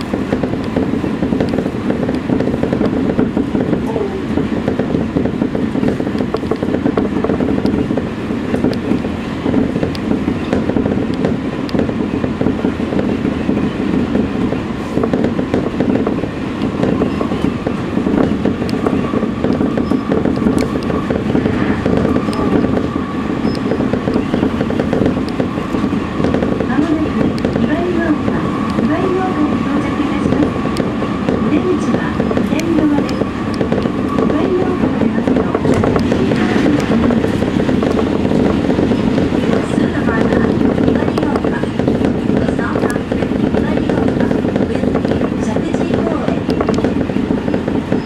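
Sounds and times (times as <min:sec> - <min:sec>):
train wheels and motors rumbling: 0:00.0 - 0:48.0.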